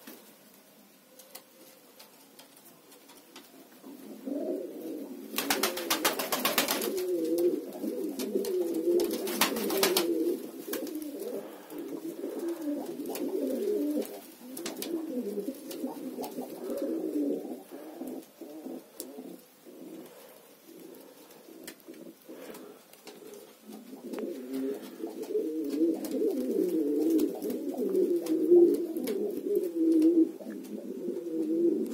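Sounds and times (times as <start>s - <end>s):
pigeons cooing: 1.0s - 31.9s.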